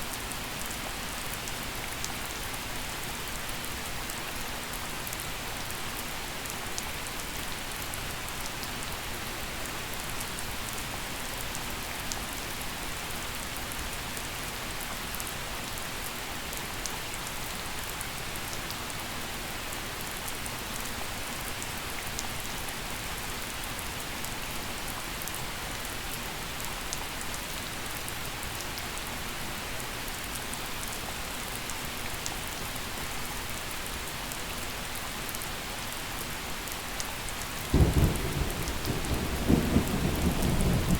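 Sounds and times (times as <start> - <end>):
gentle rain hiss: 0.0 - 40.9
raindrops ticking on surfaces: 0.1 - 40.9.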